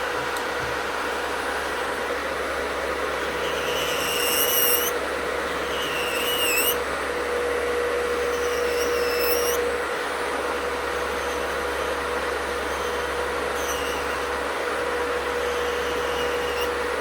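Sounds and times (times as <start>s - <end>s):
electric nail drill whine: 0.0s - 17.0s
fan rushing: 0.0s - 17.0s.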